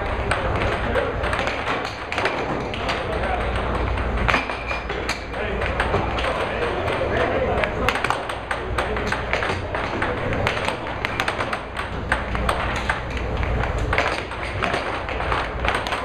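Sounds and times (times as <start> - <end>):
air hockey puck clacking: 0.0 - 16.0.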